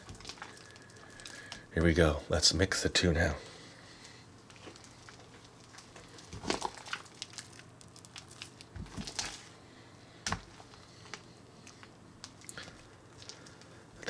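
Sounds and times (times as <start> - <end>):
slime squelching and crackling: 0.0 - 2.4, 4.0 - 14.0.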